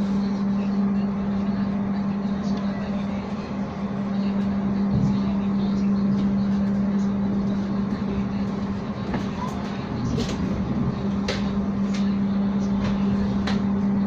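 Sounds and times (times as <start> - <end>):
low hum: 0.0 - 14.0
train running noise: 0.0 - 14.0.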